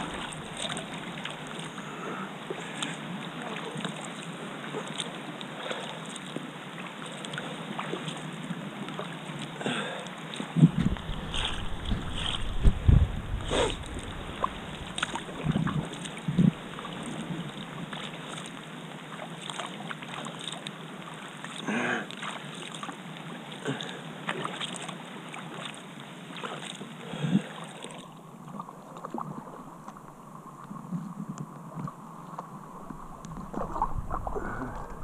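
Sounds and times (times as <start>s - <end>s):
water washing: 0.0s - 6.4s, 7.1s - 23.0s, 28.6s - 35.0s
paddle splashing in water: 0.0s - 35.0s.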